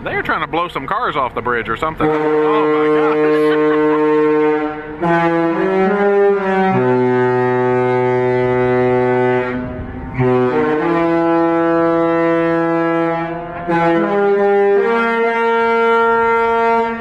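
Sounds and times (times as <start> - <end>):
ship horn playing a tune: 2.0 - 17.0.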